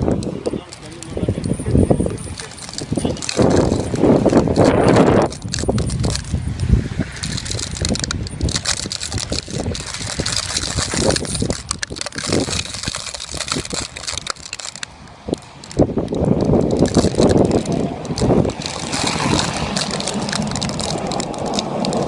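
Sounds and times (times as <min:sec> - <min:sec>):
metal tire chains clinking: 0:00.0 - 0:22.0.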